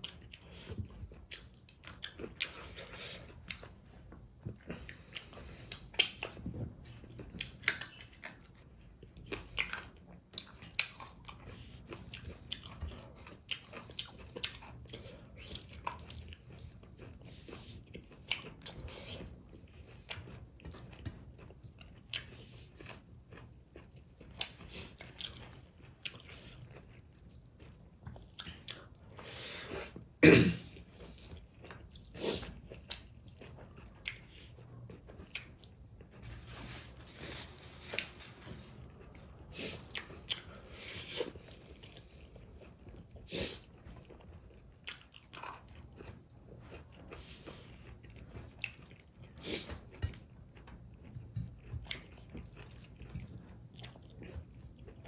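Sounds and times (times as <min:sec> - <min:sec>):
close chewing and biting: 0:00.0 - 0:55.0.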